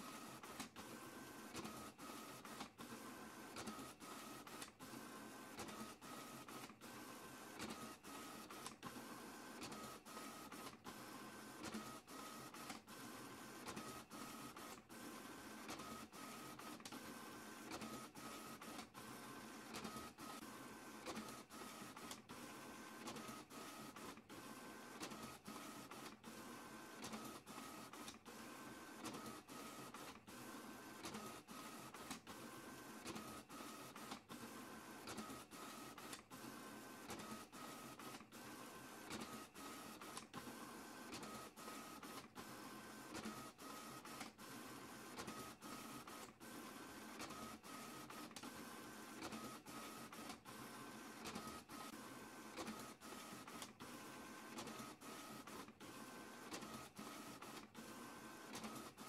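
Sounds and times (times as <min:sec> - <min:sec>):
faint printer whine: 0:00.0 - 0:59.0
printer mechanical whir: 0:00.0 - 0:59.0.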